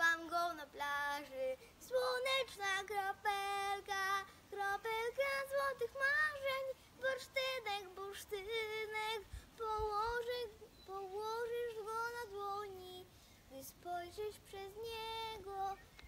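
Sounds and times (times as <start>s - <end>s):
girl singing: 0.0s - 16.0s.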